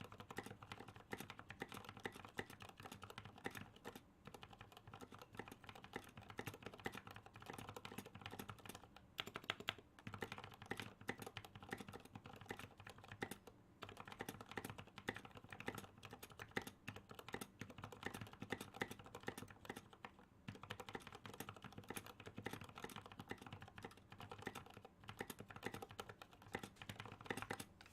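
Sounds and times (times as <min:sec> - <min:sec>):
fast typing on mechanical keyboard: 0:00.0 - 0:27.8.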